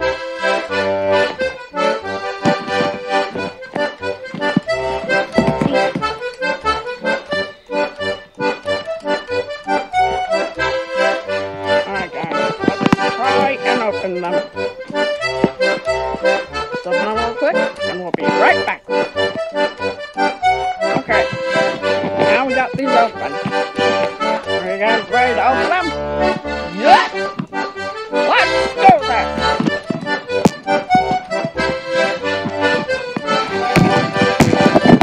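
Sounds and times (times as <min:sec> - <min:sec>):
instrumental music with pulsing bass: 0:00.0 - 0:35.0.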